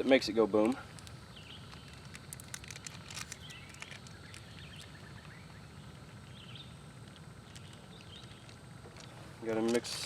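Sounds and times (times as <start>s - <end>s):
low steady rumble: 0.0s - 10.0s
small birds chirping: 0.0s - 10.0s.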